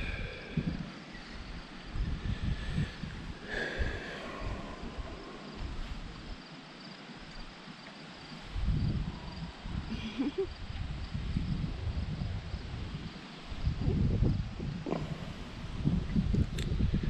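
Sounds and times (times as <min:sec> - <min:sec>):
faint insect trill: 0:00.0 - 0:17.0
wind rumbling on microphone: 0:00.0 - 0:17.0.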